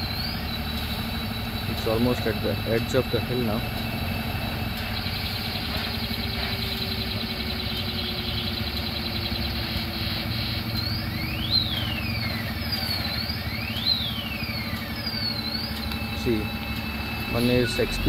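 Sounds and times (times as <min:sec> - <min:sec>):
high whistling tone: 0:00.0 - 0:18.0
truck diesel engine running: 0:00.0 - 0:18.0.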